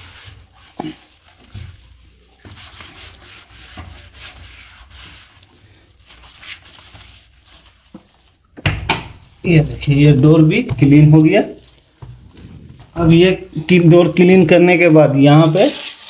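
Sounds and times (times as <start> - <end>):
cloth rubbing on glass: 0.0 - 8.5, 9.2 - 16.0.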